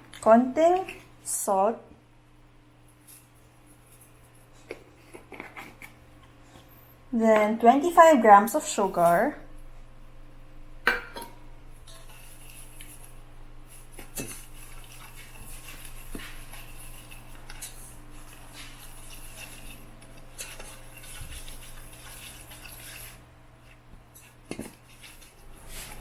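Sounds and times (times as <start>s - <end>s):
spoon stirring and scraping bowl: 0.6s - 1.1s, 2.9s - 6.7s, 7.4s - 9.5s, 11.1s - 26.0s.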